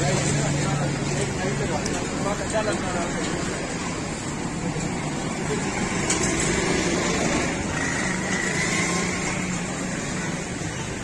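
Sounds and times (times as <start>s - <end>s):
traffic and machinery hum: 0.0s - 11.0s.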